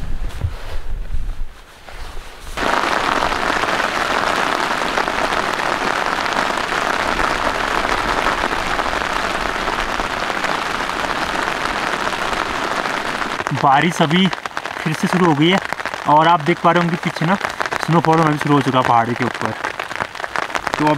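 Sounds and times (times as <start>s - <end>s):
rain on tent fabric: 2.6s - 20.9s.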